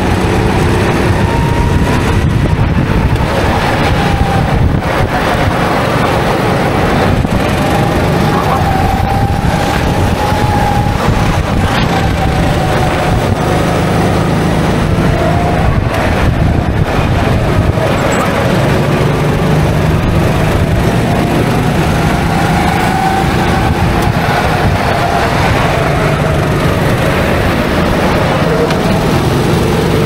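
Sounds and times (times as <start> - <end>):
go-kart motor: 0.0 - 30.0
loud steady rumble: 0.0 - 30.0.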